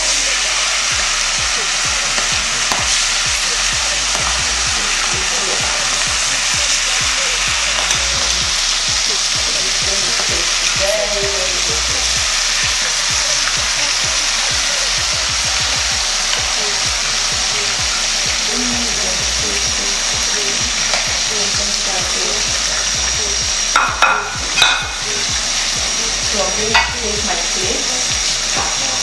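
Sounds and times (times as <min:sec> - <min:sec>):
fish frying in oil: 0:00.0 - 0:29.0.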